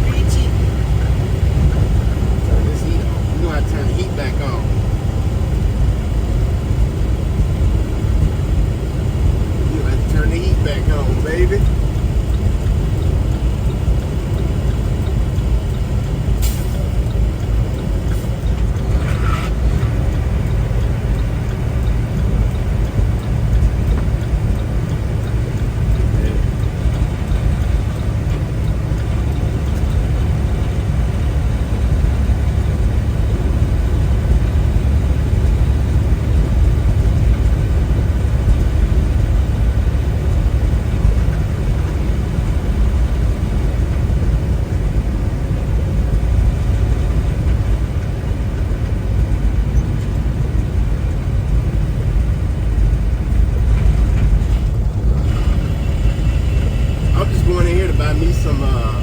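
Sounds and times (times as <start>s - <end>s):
truck engine and tyre noise: 0.0s - 59.0s.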